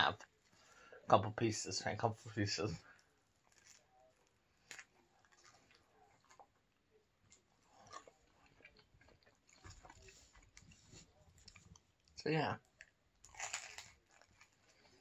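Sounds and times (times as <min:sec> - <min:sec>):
biting and chewing crispy pizza: 0:02.8 - 0:15.0.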